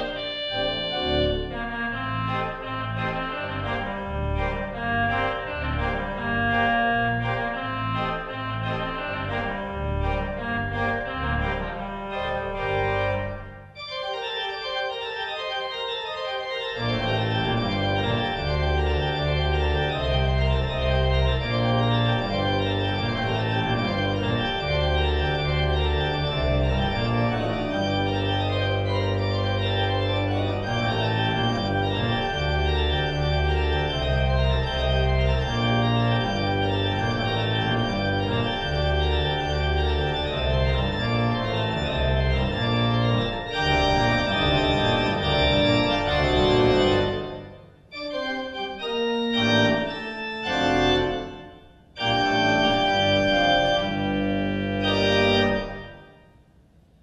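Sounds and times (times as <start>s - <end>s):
deep organ pedal bass: 0.0s - 56.1s
organ chords: 0.0s - 56.4s.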